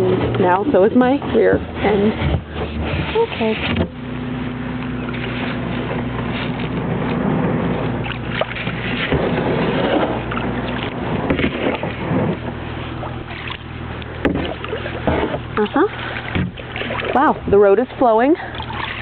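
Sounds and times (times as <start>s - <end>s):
kayak paddle splashing in water: 0.0s - 19.0s
steady low hum: 0.0s - 19.0s.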